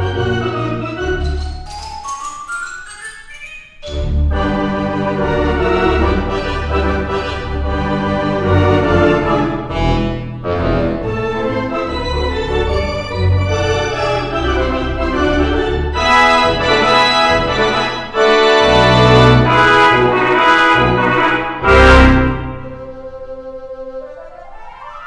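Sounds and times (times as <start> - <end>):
instrumental music with organ and brass: 0.0 - 2.3, 3.7 - 25.0.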